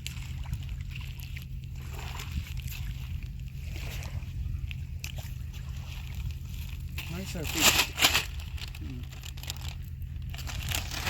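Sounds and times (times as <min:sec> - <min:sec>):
steady low rumble: 0:00.0 - 0:11.0
water sloshing and lapping: 0:00.0 - 0:11.0.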